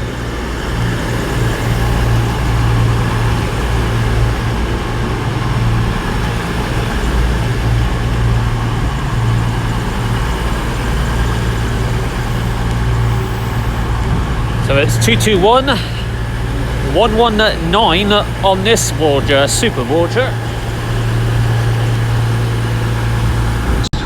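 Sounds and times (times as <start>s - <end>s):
train diesel engines droning: 0.0s - 24.0s.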